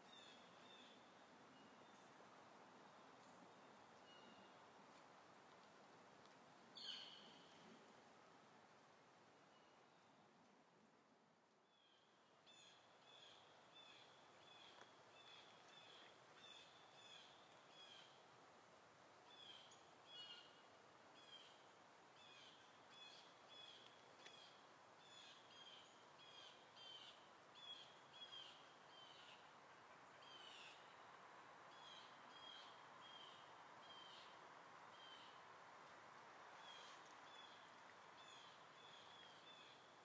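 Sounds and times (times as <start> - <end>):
faint background noise: 0.0 - 40.0.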